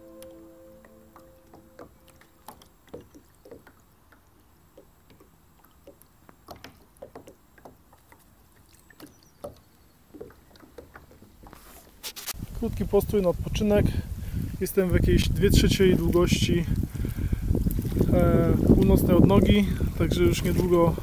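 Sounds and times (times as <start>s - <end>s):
water splashing against kayak hull: 0.1s - 13.3s, 14.1s - 21.0s.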